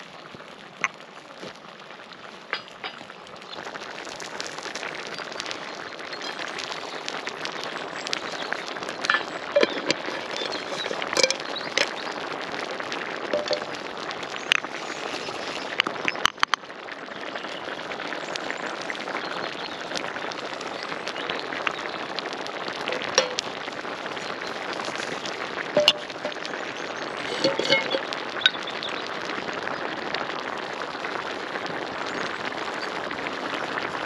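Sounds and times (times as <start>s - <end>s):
stew bubbling in a pan: 0.0s - 34.0s
wood fire pops and crackles: 0.0s - 34.0s.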